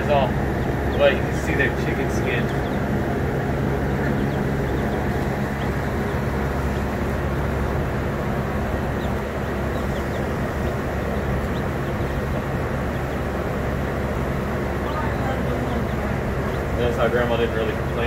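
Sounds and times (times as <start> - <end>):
chicks peeping: 0.0 - 18.0
steady low hum with rushing noise: 0.0 - 18.0.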